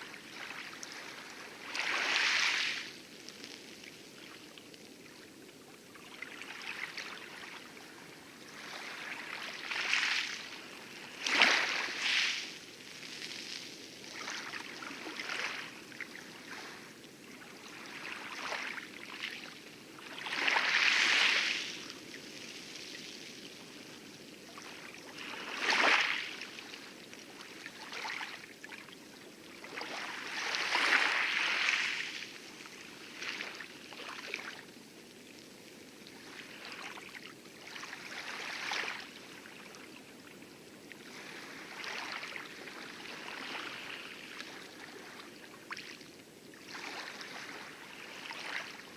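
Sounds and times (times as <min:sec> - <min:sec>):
waves lapping on coral: 0:00.0 - 0:48.9.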